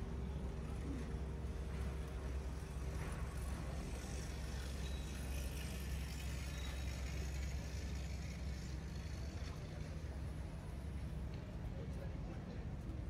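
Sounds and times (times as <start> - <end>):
low city street rumble: 0.0 - 13.0.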